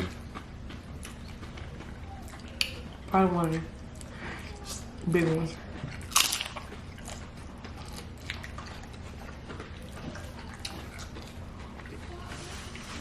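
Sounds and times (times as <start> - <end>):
low steady hum: 0.0 - 13.0
soft chewing: 0.0 - 13.0.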